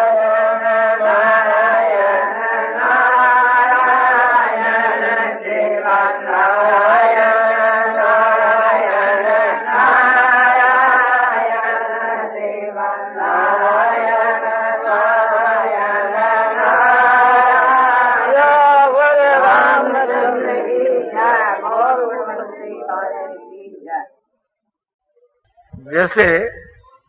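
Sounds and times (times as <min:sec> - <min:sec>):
person chanting: 0:00.0 - 0:23.9, 0:25.6 - 0:27.0.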